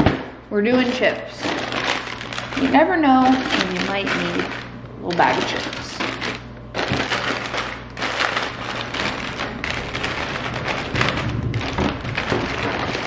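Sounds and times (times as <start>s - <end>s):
plastic chip bags crinkling: 1.3s - 13.0s.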